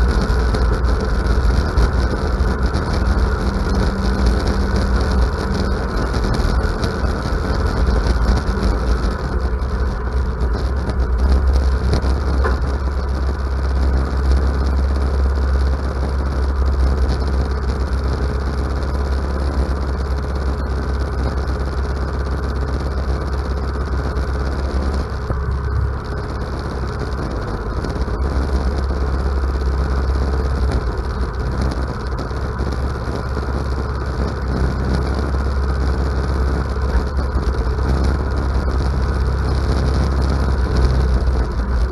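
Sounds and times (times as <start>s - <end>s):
riding mower engine running: 0.0s - 41.9s.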